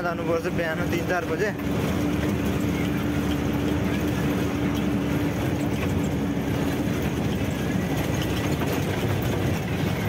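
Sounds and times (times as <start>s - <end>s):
road noise: 0.0s - 10.0s
truck engine droning: 0.0s - 10.0s.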